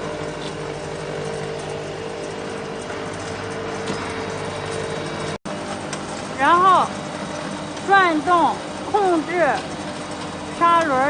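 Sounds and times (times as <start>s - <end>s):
grinder motor humming: 0.0s - 11.0s.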